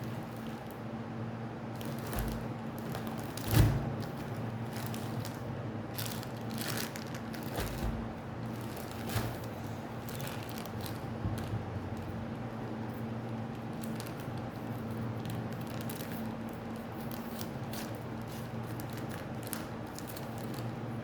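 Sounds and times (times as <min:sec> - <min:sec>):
plastic wrapper crinkling: 0:01.7 - 0:21.0.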